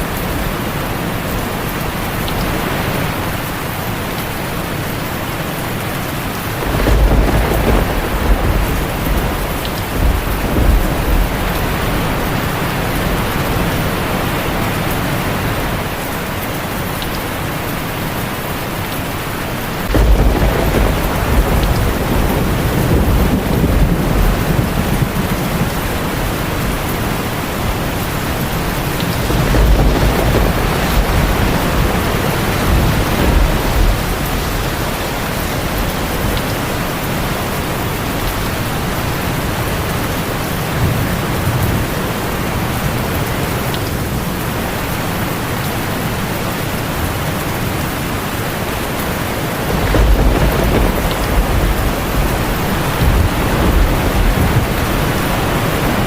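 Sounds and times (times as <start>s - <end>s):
heavy rain on a tin roof: 0.0s - 56.0s
thunder rumbling: 5.5s - 16.0s, 17.7s - 56.0s.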